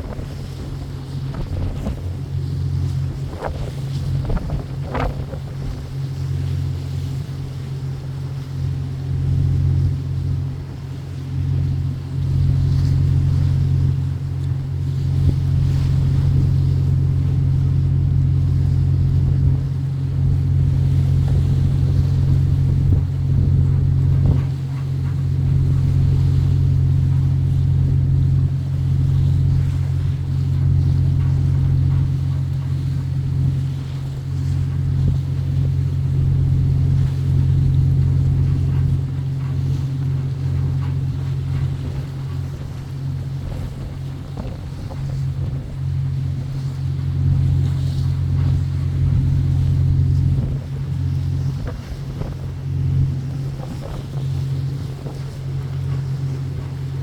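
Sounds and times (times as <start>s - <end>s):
boat engine droning: 0.0s - 57.0s
sea wash: 0.0s - 57.0s
wind buffeting microphone: 0.0s - 57.0s.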